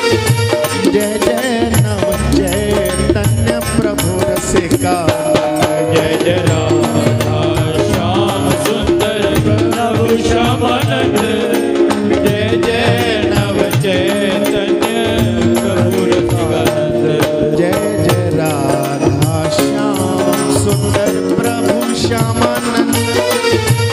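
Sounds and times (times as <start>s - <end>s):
drum beat: 0.0s - 23.9s
wavering melody: 0.0s - 23.9s.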